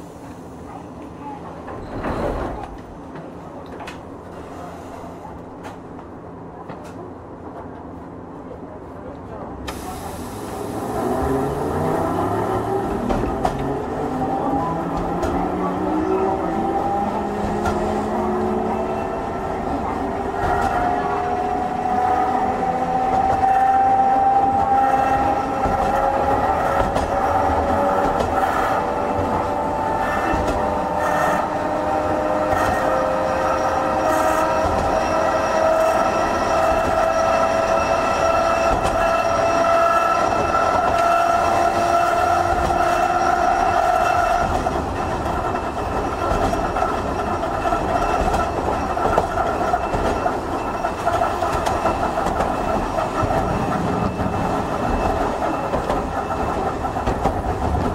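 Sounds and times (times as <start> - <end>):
wheels rumbling on rail: 0.0 - 57.9
tram motors whining: 9.7 - 57.9.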